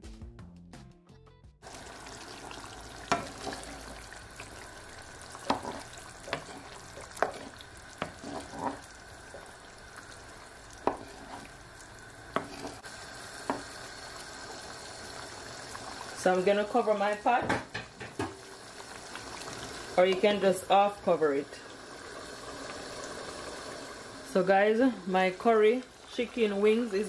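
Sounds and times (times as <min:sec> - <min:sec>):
gravy simmering and hissing: 0:01.6 - 0:27.0.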